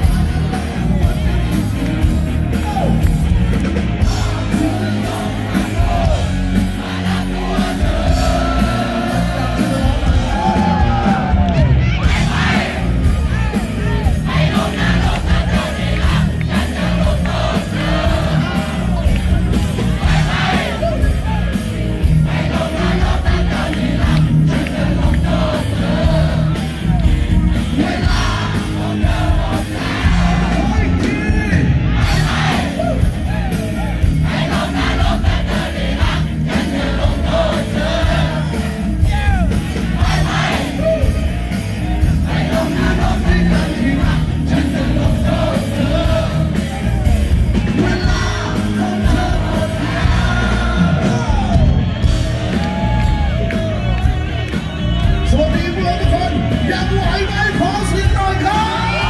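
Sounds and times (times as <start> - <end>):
bass: 0.0 - 59.0
live rock band: 0.0 - 59.0
steady drum beat: 0.0 - 59.0.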